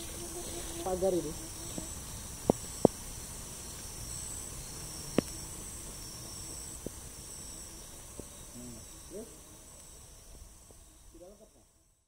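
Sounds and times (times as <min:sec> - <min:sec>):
forest insects chorus: 0:00.0 - 0:12.0.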